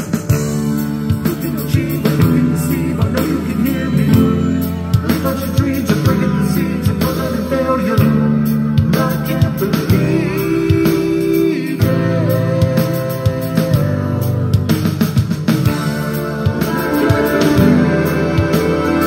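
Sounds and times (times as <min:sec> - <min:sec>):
regular drum beat: 0:00.0 - 0:19.0
rock music with singing: 0:00.0 - 0:19.0.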